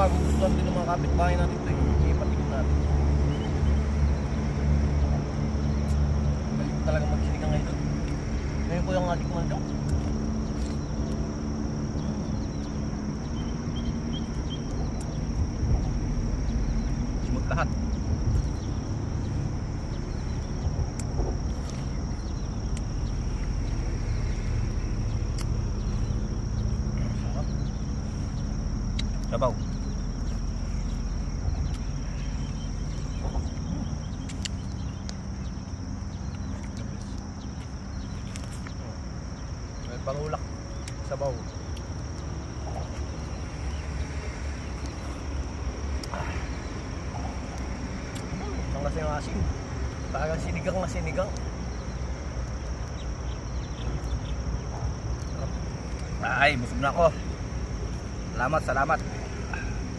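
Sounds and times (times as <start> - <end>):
crickets droning: 0.0 - 59.9
low outdoor rumble: 0.0 - 59.9.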